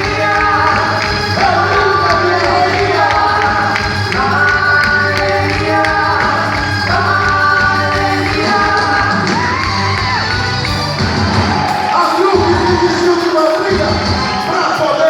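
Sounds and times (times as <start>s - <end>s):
folk dance music with singing: 0.0s - 15.0s
steady percussion beat: 0.0s - 15.0s.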